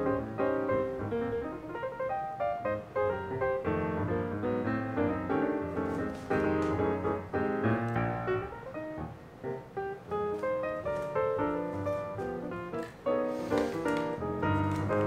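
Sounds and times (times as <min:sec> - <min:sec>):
piano keyboard melody: 0:00.0 - 0:15.0.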